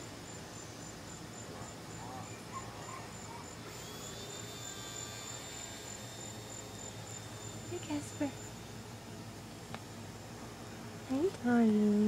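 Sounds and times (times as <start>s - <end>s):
insects chirping: 0.0s - 11.6s
faint thin whine: 0.0s - 12.0s.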